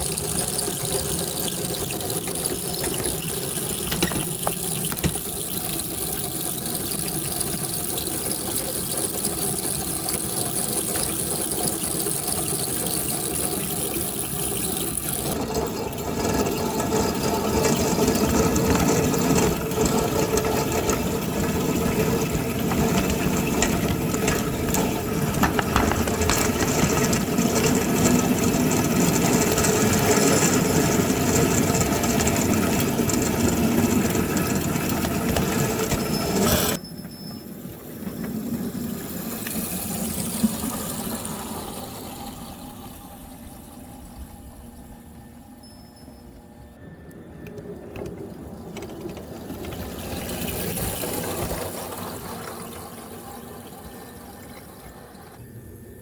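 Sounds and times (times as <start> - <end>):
miniature train running with rattling: 0.0 - 56.0.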